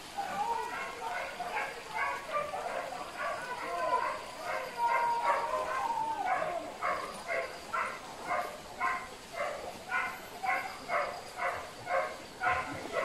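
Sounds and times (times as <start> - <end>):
dog barking: 0.7 - 13.0.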